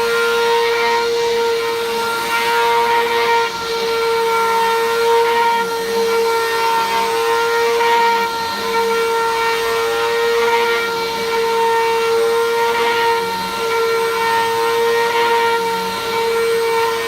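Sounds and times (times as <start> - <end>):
vacuum cleaner on a rug: 0.0 - 17.0.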